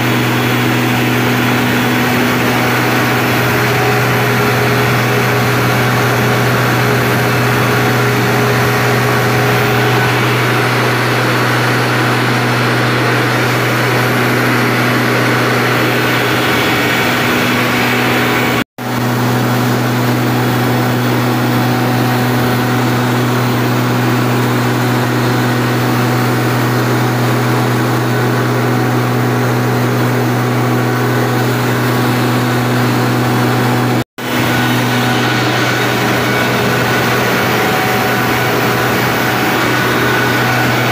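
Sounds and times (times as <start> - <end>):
diesel generator humming: 0.0 - 40.9.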